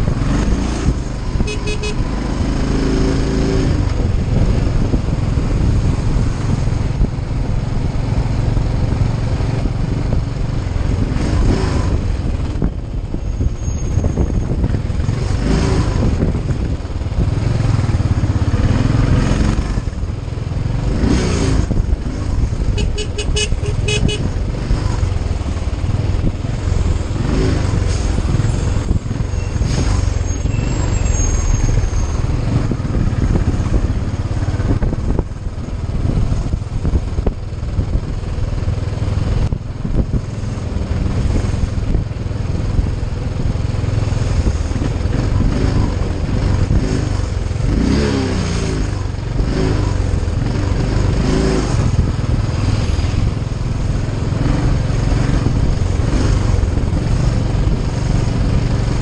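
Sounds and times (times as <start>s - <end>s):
motorcycle engine drone: 0.0s - 59.0s
wind rumble on microphone: 0.0s - 59.0s.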